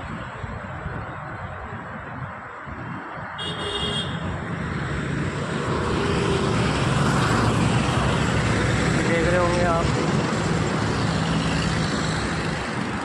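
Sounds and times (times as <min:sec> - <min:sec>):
vehicle engine and tyre noise: 0:00.0 - 0:13.0.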